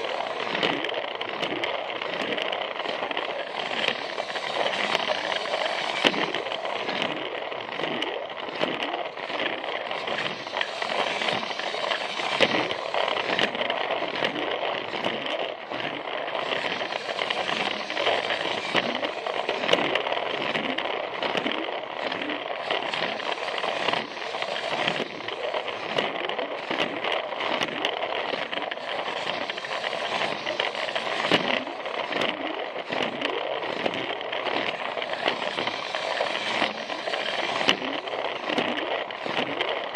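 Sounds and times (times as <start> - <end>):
toy train motor whirring: 0.0 - 39.9
wheels clattering over track joints: 0.0 - 39.9.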